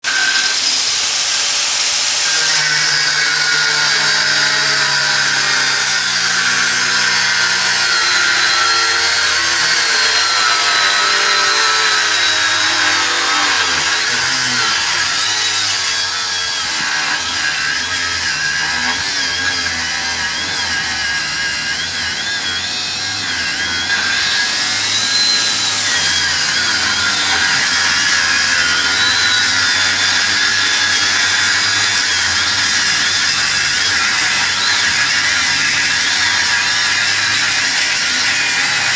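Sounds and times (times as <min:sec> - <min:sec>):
angle grinder cutting metal: 0:00.0 - 0:38.9.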